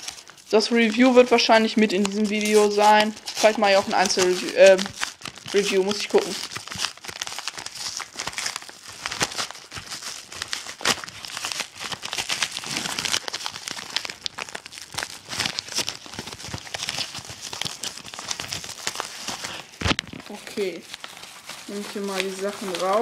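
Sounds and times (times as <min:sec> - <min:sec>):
envelope crinkling: 0:00.0 - 0:23.0
paper tearing: 0:00.0 - 0:23.0.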